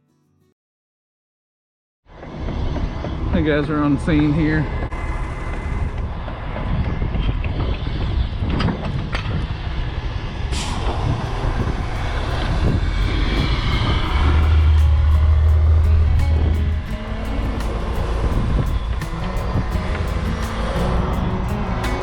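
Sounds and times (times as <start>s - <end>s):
heavy truck engine running: 2.1s - 8.4s, 9.5s - 22.0s.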